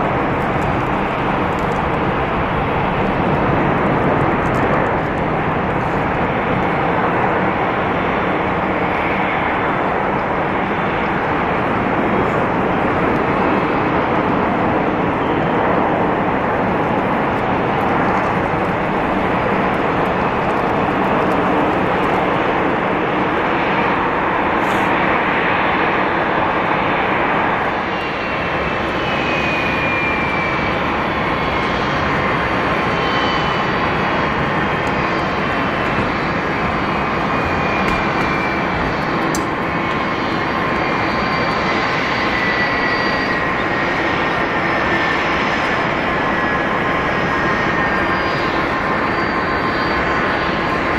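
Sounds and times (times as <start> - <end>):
jet engines rushing: 0.0 - 50.9.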